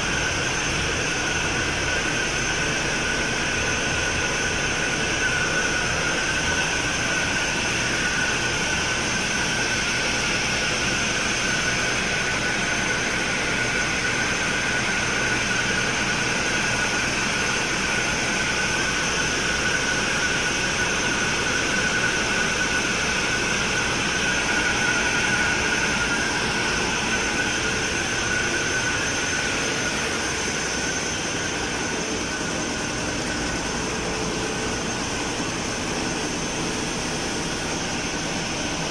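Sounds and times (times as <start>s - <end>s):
high-pitched whine: 0.0s - 38.9s
marine diesel engine running: 0.1s - 38.9s.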